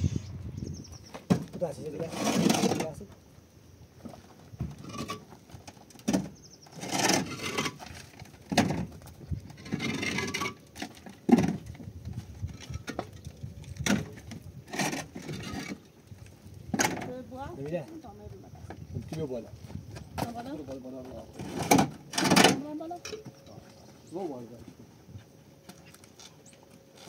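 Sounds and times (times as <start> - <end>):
scraping or rustling: 1.0 - 3.1, 4.0 - 24.0.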